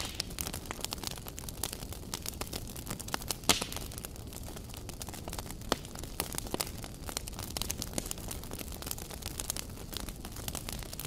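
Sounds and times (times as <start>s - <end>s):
low rustle of burning: 0.0s - 11.0s
wood fire crackling and popping: 0.0s - 11.0s.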